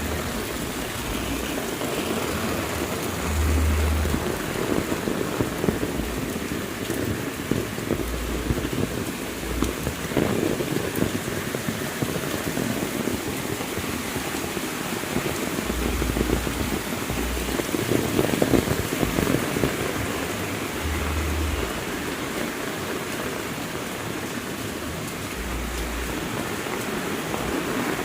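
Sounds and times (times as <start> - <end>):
low rumbles: 0.0 - 12.1, 13.2 - 28.0
heavy rain falling: 0.0 - 28.0.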